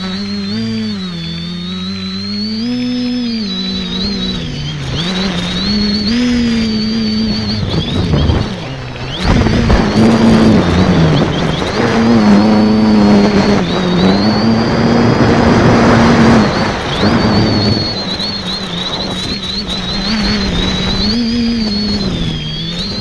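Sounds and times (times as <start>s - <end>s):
drone motors humming and whining: 0.0s - 23.0s
wind on microphone: 0.0s - 23.0s.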